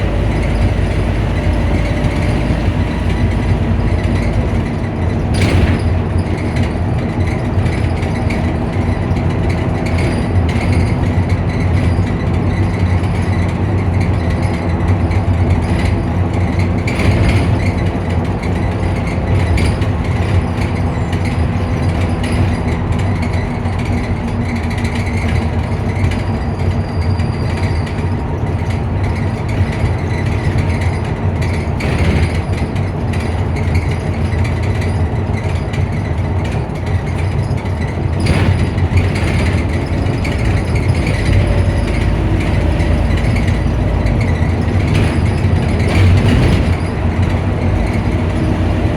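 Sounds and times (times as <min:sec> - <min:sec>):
bus engine idling: 0:00.0 - 0:48.9.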